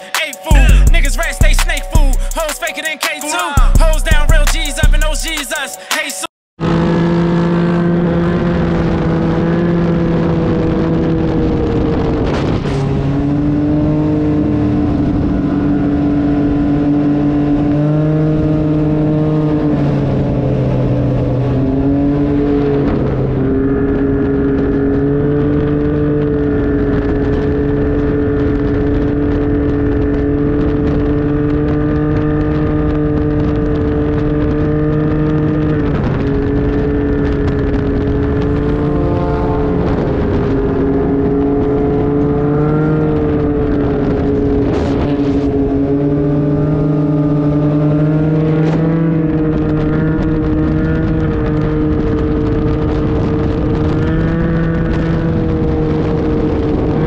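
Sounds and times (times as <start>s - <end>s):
motorcycle engine cruising: 6.6s - 57.0s
wind buffeting microphone: 7.6s - 57.0s.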